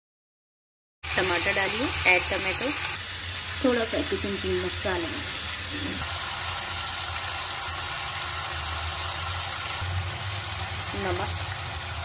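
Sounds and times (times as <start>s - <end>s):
vegetables sizzling in oil: 1.0s - 12.0s.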